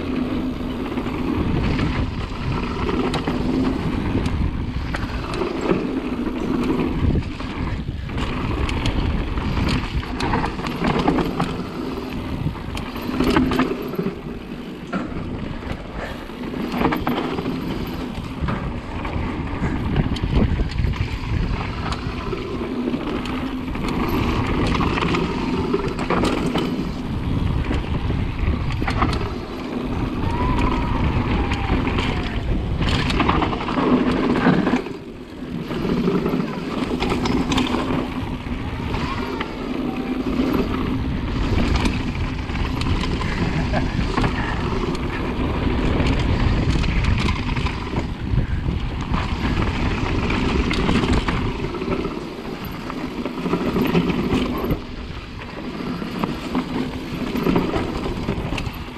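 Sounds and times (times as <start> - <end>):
bike knocking and rattling: 0.0 - 58.9
bike tyres on dirt: 0.0 - 58.9
wind on microphone: 0.0 - 58.9.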